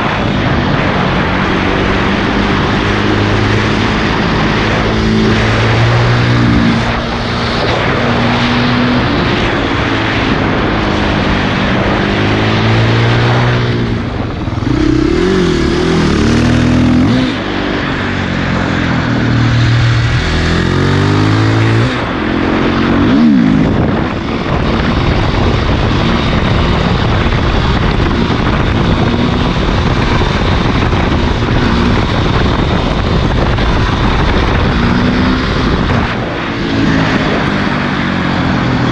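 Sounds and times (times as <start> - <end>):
constant rush of noise: 0.0 - 38.9
motorcycle engine revving: 0.0 - 38.9.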